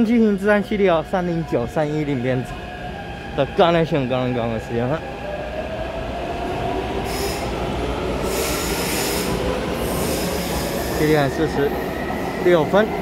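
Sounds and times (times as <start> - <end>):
train wheels rumbling on rail: 0.4 - 13.0.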